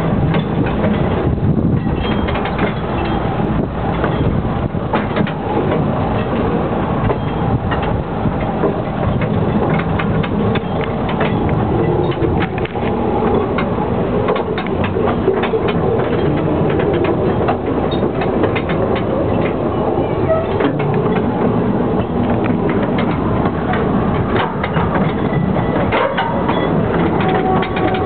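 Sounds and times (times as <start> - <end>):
train rumbling on track: 0.0 - 28.0
wheels clicking and rattling: 0.0 - 28.0.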